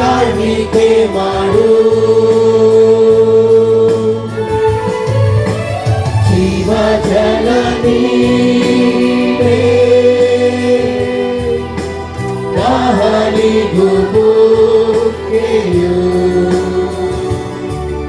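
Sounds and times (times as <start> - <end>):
bass line: 0.0 - 18.0
group singing worship song: 0.0 - 18.0.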